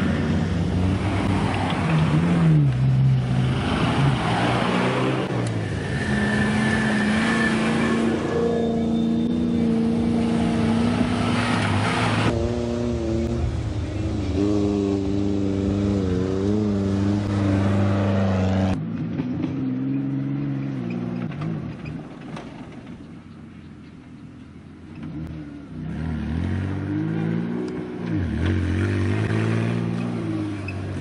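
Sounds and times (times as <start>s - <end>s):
off-road engines revving: 0.0s - 31.0s.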